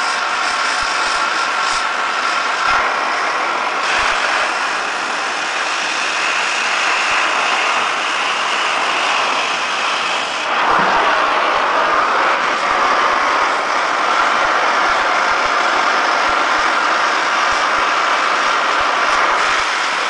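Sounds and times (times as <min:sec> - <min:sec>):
cutting torch hissing: 0:00.0 - 0:20.0.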